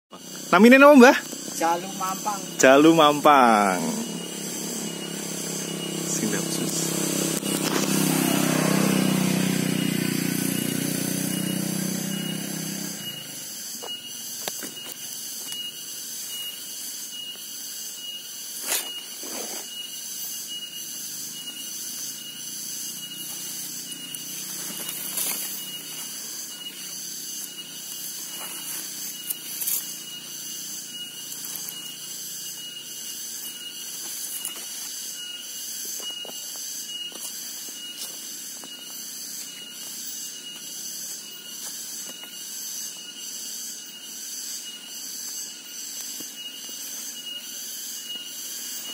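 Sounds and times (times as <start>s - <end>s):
insects buzzing: 0.1s - 48.9s.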